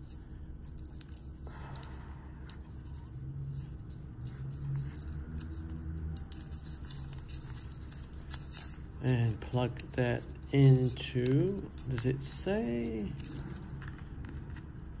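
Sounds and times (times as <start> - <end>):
cable and packaging handled: 0.0 - 15.0
low steady hum: 0.0 - 15.0.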